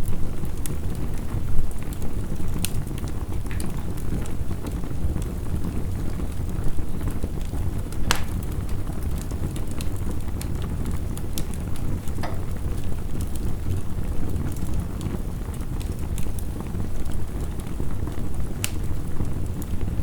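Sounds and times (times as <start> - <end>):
heavy rain rumble: 0.0 - 20.0
wood fire crackling and popping: 0.0 - 20.0.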